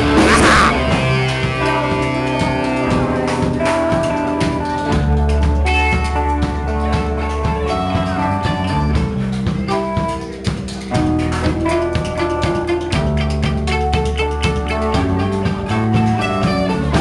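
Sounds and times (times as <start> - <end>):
live band playing instrumental: 0.0 - 17.0.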